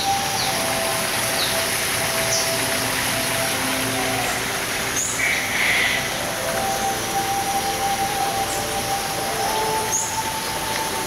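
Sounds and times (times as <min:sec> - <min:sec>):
small birds chirping: 0:00.0 - 0:11.0
steady hiss: 0:00.0 - 0:11.0.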